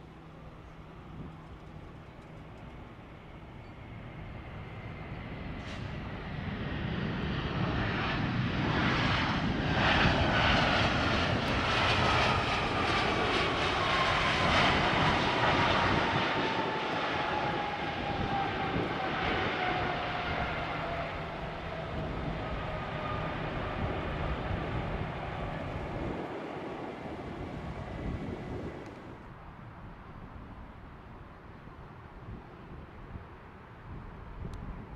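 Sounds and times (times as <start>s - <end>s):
jet engines roaring: 0.0s - 29.3s
jet engine whine: 0.0s - 34.9s.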